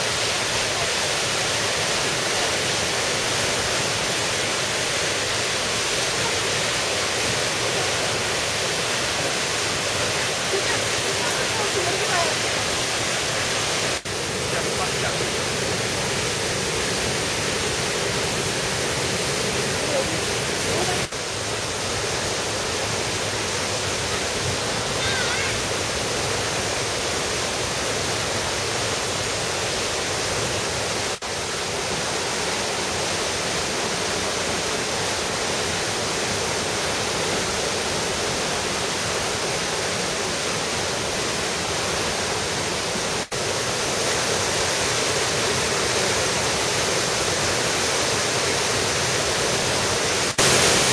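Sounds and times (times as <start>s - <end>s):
stream and waterfall rushing: 0.0s - 50.9s.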